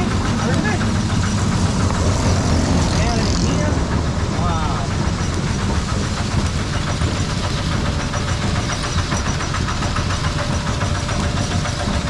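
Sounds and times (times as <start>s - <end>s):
machine knocking over low rumble: 0.0s - 12.0s.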